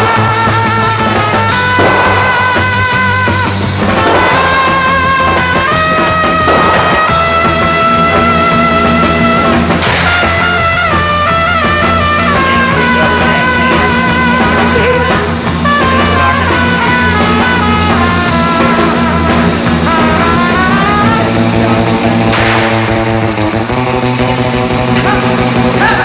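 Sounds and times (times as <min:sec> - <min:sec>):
bass line: 0:00.0 - 0:26.0
electric guitar lead: 0:00.0 - 0:26.0.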